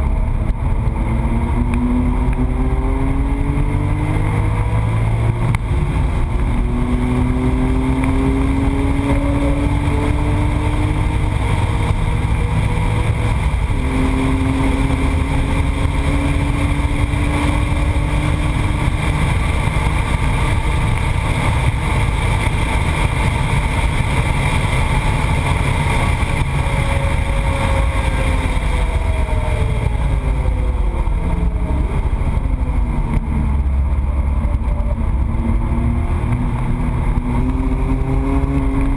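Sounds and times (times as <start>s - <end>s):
car engine revving: 0.0s - 38.9s
road noise: 0.0s - 38.9s.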